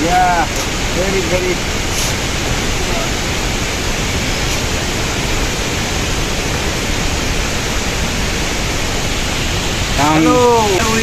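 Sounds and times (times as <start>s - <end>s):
waterfall and river water rushing: 0.0s - 11.0s.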